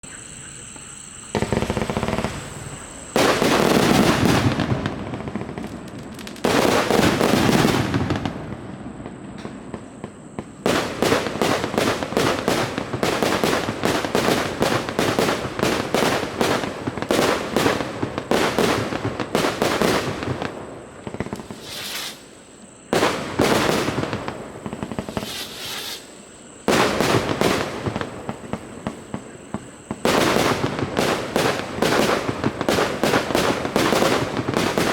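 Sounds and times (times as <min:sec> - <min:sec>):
firework bangs: 0:01.2 - 0:34.9
firework crackling: 0:01.2 - 0:34.9.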